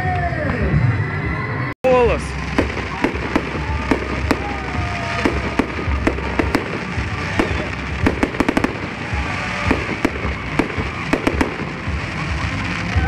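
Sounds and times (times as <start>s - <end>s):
background noise: 0.0s - 13.0s
fireworks bangs: 1.9s - 13.0s.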